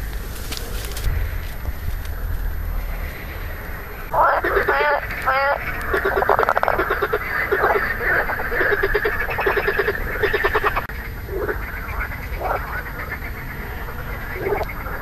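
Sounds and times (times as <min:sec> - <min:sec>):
marsh frogs croaking: 0:00.0 - 0:15.0.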